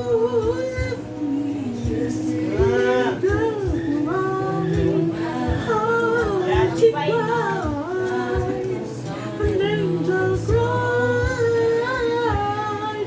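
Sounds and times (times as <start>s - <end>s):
woman singing pop ballad: 0.0s - 13.0s.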